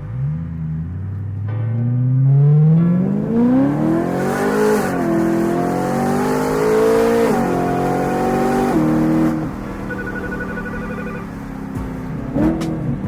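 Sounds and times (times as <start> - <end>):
car engine accelerating through gears: 0.0 - 13.0.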